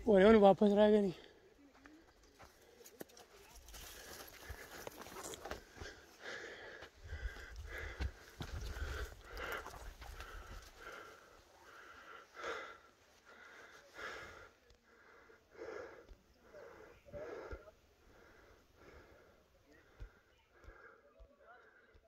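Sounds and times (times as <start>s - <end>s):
person breathing: 3.7s - 22.0s.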